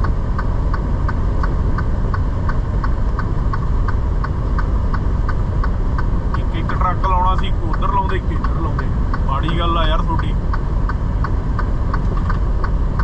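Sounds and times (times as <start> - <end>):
road noise: 0.0 - 13.0
sharp ticking: 0.0 - 13.0
truck engine rumble: 0.0 - 13.0.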